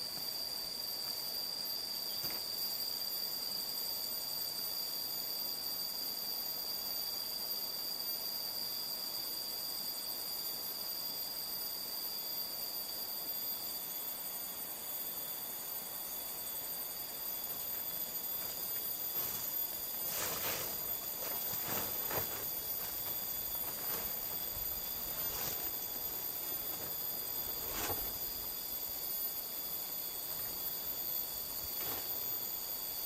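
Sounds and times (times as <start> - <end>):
high-pitched insect chorus: 0.0 - 33.0
steady hiss: 0.0 - 33.0.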